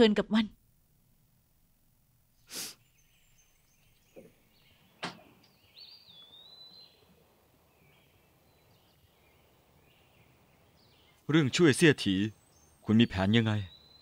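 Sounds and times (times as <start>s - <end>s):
bird chirps: 2.7s - 14.0s.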